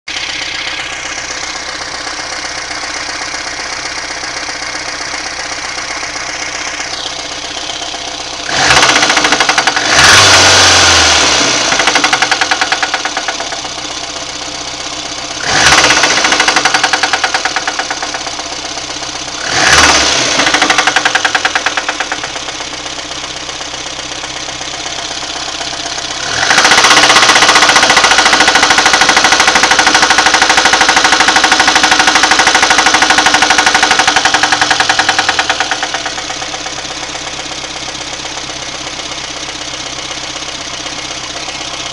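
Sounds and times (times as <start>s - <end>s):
car engine running with rhythmic knock: 0.1s - 41.9s.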